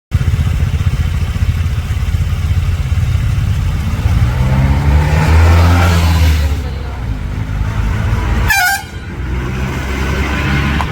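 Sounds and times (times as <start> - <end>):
vehicle engine rumbling: 0.1 - 10.9.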